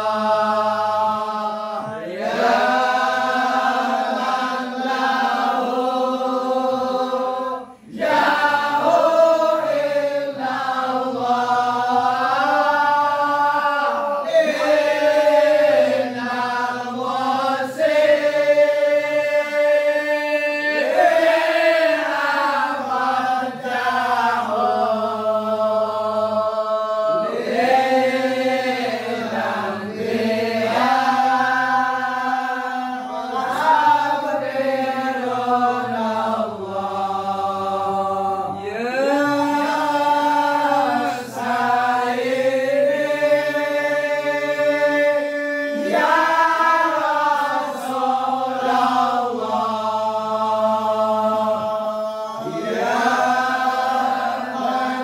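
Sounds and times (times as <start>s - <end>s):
congregation chanting in unison: 0.0s - 55.0s.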